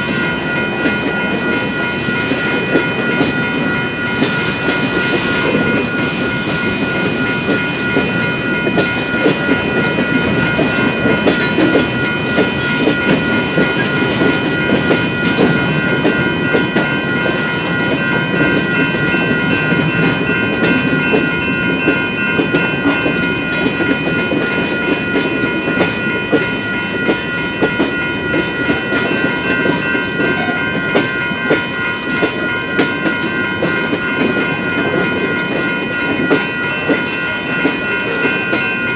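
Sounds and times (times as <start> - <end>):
crossing warning bell ringing: 0.0 - 38.9
train wheels clicking on rails: 0.0 - 38.9.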